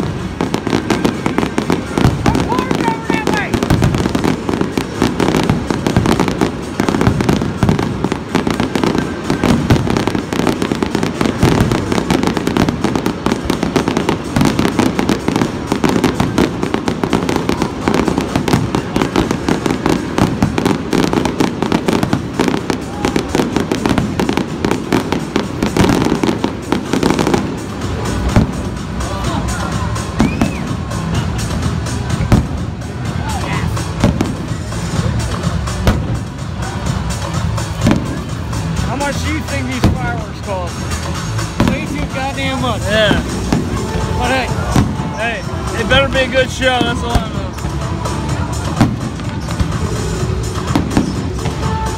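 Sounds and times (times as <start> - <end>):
firework shells bursting and crackling: 0.0 - 51.9.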